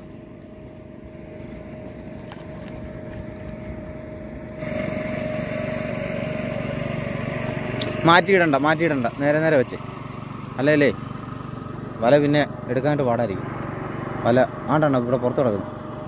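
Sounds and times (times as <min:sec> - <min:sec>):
motor engine droning hum: 0:00.0 - 0:16.0.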